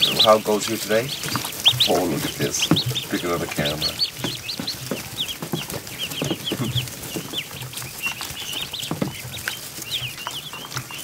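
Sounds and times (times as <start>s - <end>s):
soft low thumps: 0.0s - 10.2s
ducklings peeping: 0.0s - 11.0s
rustling: 0.0s - 11.0s.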